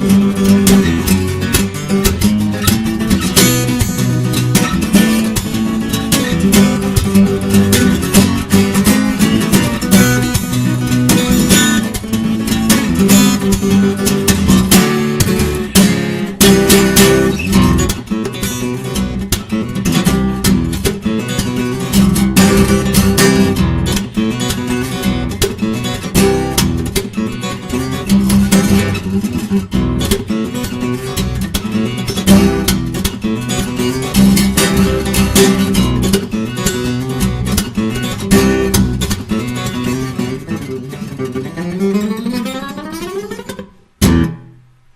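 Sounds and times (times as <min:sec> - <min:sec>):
fingerstyle acoustic guitar: 0:00.0 - 0:44.9.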